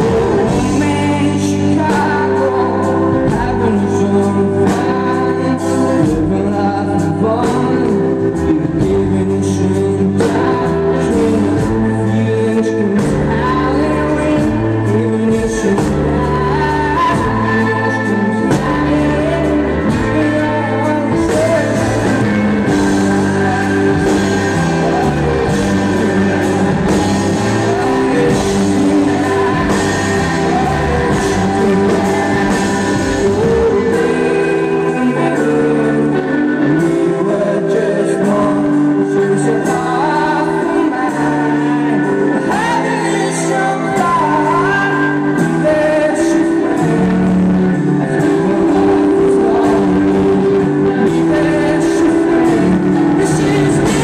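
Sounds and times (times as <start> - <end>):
man singing: 0.0 - 54.0
rock band playing live: 0.0 - 54.0.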